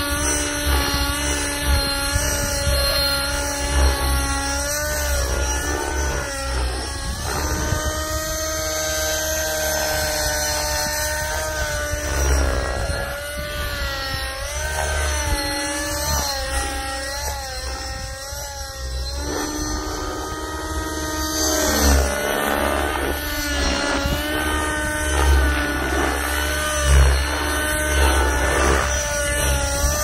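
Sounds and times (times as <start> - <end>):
rc helicopter buzzing whine: 0.0 - 30.0.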